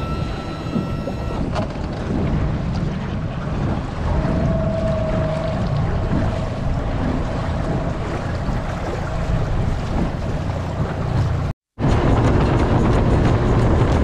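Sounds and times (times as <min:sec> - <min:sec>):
boat on choppy water: 0:00.0 - 0:14.0
wind buffeting microphone: 0:00.0 - 0:14.0.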